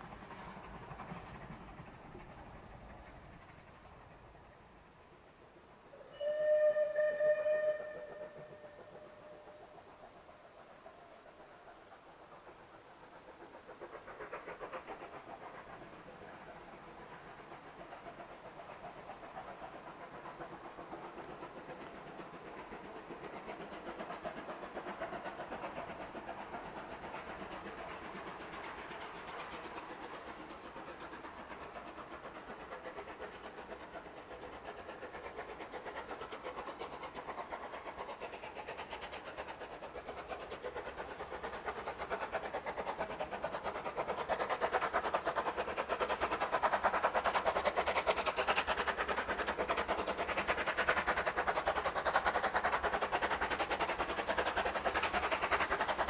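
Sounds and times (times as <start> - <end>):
steam train running: 0.0 - 56.0.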